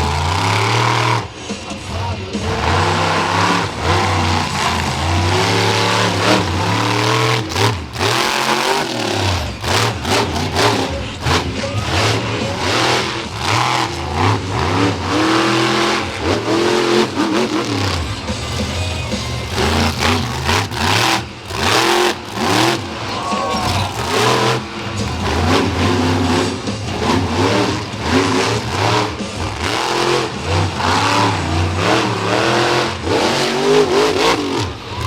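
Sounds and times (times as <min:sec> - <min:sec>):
monster truck engine revving: 0:00.0 - 0:35.0
truck slamming down: 0:00.0 - 0:35.0.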